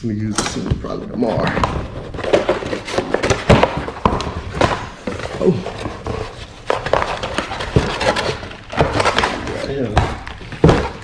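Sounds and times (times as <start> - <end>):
package rustling and crinkling: 1.6 - 11.0.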